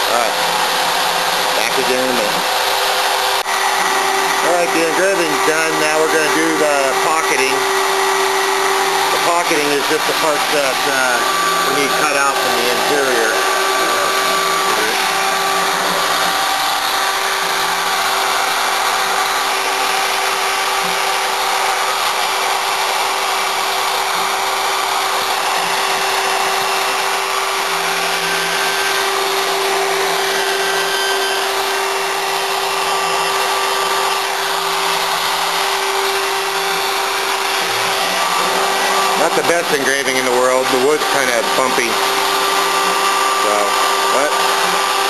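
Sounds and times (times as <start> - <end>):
hiss of wood cutting: 0.0 - 45.0
router spindle whining: 0.0 - 45.0.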